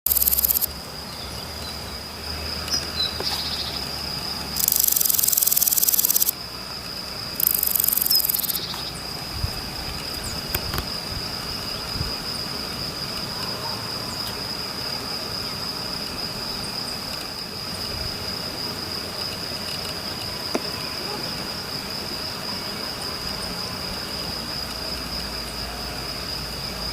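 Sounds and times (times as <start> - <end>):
cricket trilling: 0.0 - 26.9
harsh buzzing insect song: 0.0 - 26.9.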